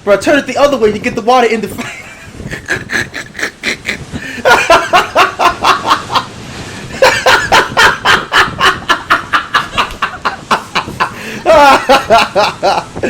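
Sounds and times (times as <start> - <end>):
person laughing hard: 1.8 - 13.0.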